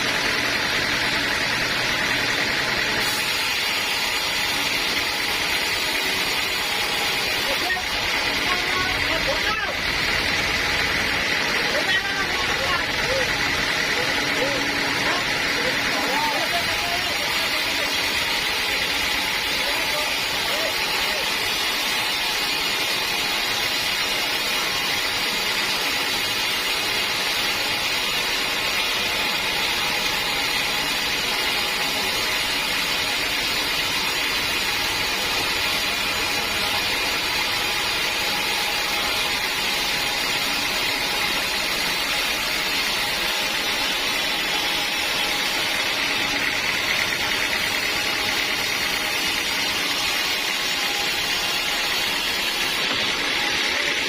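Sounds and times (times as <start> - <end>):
sawmill machine running: 0.0 - 54.0.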